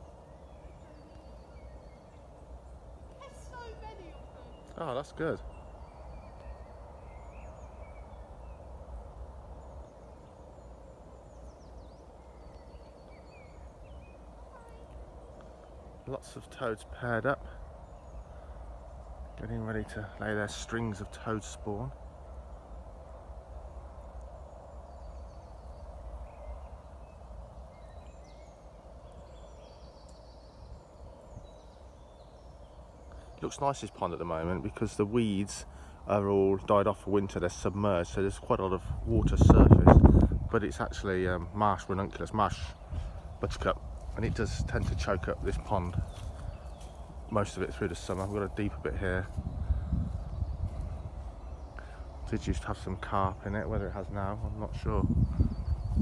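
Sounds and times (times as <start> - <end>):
birds chirping and trilling: 0.0 - 56.0
chorus of toads croaking: 0.0 - 56.0.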